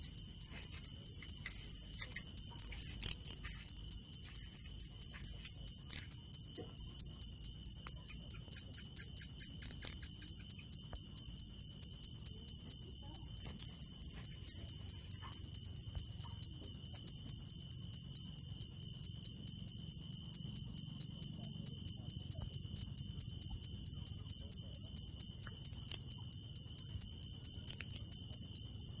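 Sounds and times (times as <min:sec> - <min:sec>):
cricket chirping: 0:00.0 - 0:29.0.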